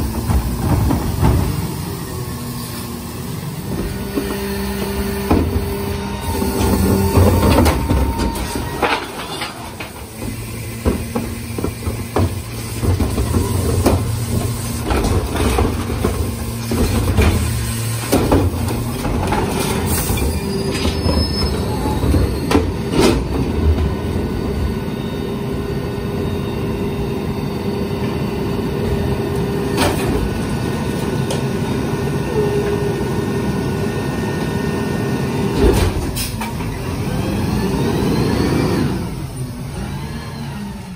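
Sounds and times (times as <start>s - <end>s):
hydraulic whine: 0.0s - 40.9s.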